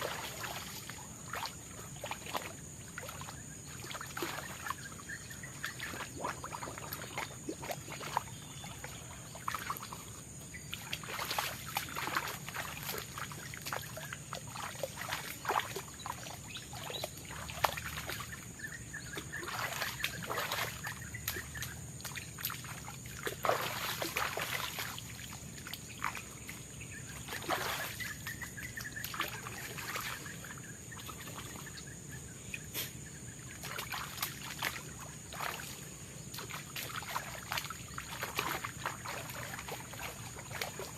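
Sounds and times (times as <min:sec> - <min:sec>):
forest insects droning: 0:00.0 - 0:40.9
water splashing and sloshing: 0:00.0 - 0:40.9.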